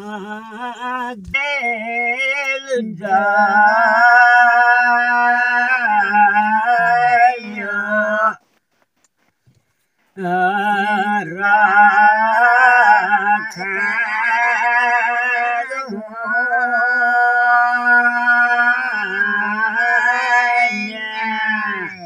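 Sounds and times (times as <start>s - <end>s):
old man singing unaccompanied: 0.0s - 8.4s, 10.2s - 22.0s.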